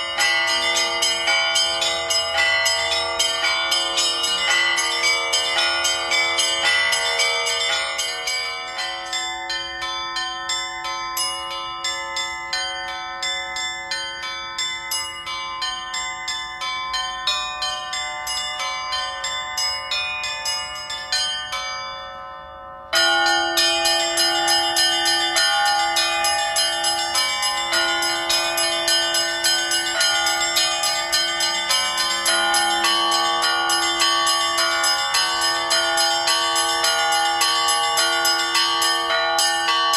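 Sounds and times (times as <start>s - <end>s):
bells ringing rapidly: 0.0s - 39.9s.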